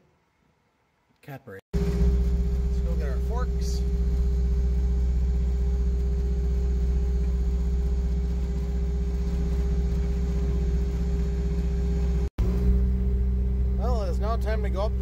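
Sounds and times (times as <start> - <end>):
loader engine rumbling: 1.8 - 15.0.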